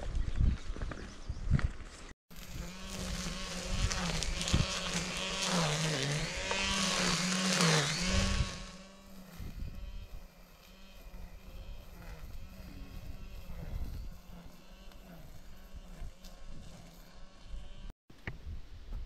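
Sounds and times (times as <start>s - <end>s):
brush cutter engine running: 2.3s - 17.9s.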